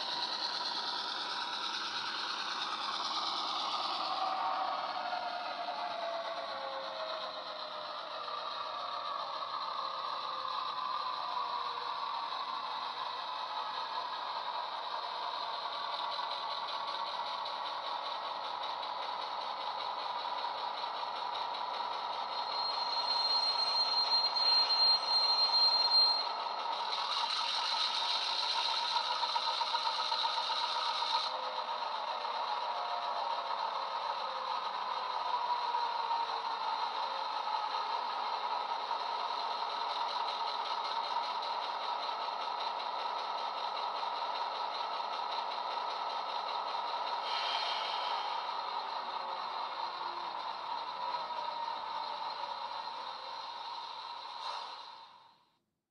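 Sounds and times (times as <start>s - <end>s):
high squeal: 0.0s - 14.0s, 20.8s - 45.2s, 46.3s - 55.0s
model train wheels rattling: 0.0s - 55.2s
model diesel engine sound: 0.0s - 55.3s
hiss: 0.0s - 55.4s.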